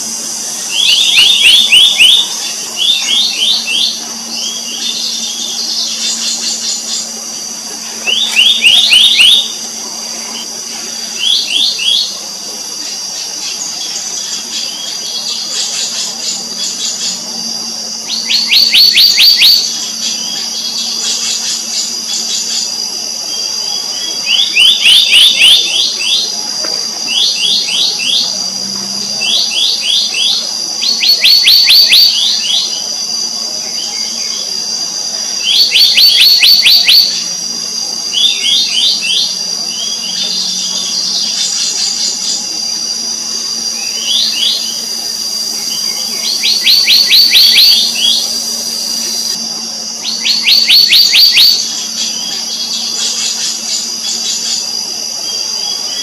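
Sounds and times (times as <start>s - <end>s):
steady high-pitched whine: 0.0s - 56.0s.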